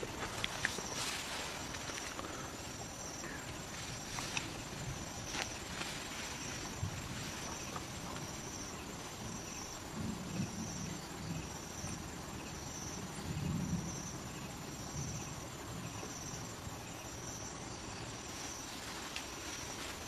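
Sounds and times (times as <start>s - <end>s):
rustling in vegetation: 0.0s - 13.2s, 14.6s - 20.0s
insect buzzing: 0.0s - 20.0s.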